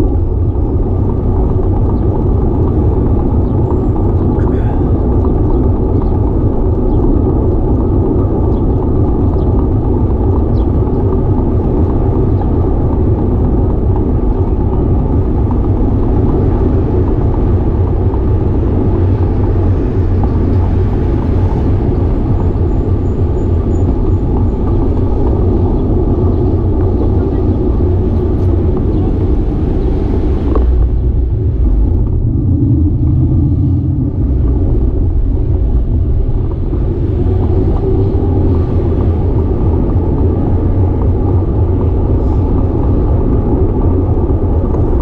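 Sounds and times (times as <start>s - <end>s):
bicycle rolling on pavement: 0.0s - 45.0s
wind rumble on microphone: 0.0s - 45.0s.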